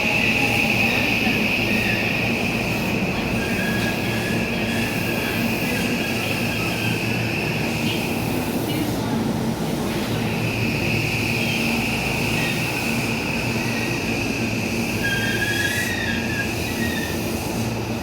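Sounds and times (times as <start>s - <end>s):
train wheel squeal: 0.0s - 8.8s, 10.0s - 17.8s
train cars rumbling: 0.0s - 18.0s.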